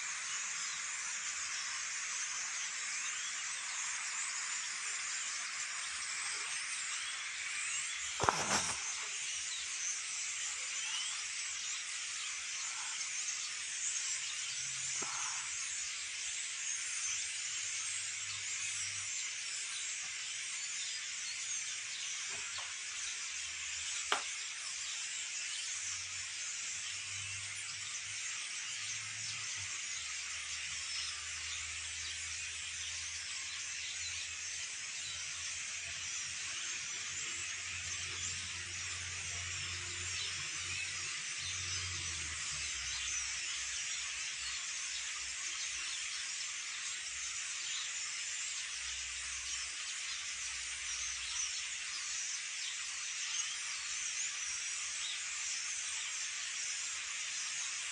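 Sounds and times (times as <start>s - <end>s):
flock of birds chattering: 0.0s - 57.9s.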